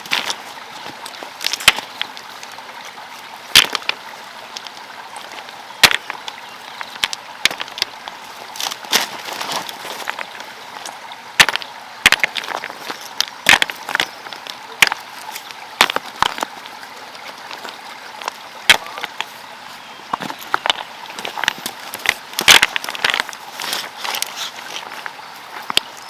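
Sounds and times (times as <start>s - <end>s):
scraping and rustling: 0.0s - 11.0s, 12.2s - 26.0s.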